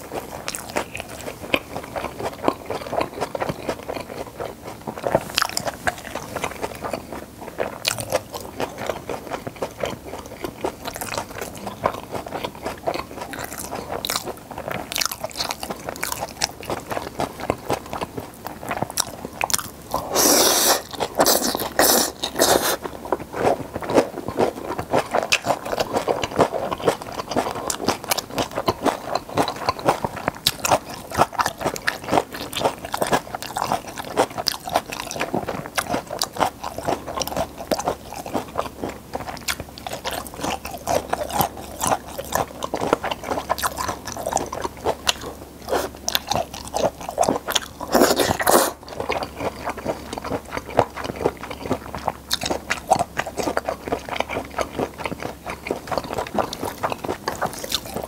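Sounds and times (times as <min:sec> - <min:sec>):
wet chewing and slurping noodles: 0:00.0 - 0:58.0.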